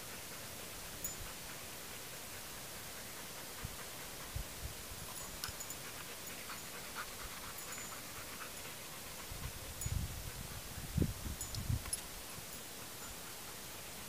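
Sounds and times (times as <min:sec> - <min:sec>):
dog panting: 0:00.0 - 0:14.0
steady hiss: 0:00.0 - 0:14.0.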